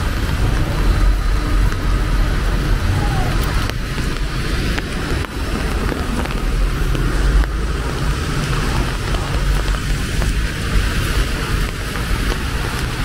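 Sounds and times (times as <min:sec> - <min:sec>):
road traffic on wet street: 0:00.0 - 0:13.0.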